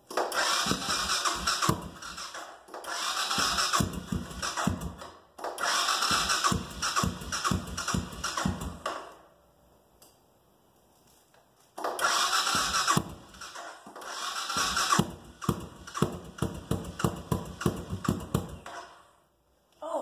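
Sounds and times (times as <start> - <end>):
single-cylinder engine thumping: 0.1 - 9.2, 11.9 - 19.0.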